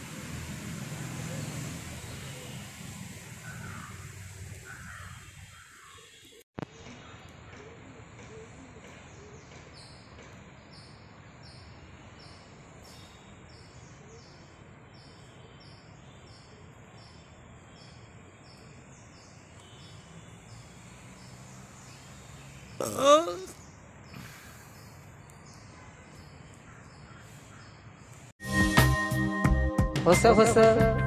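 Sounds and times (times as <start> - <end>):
faint bird chirps: 3.4 - 28.3.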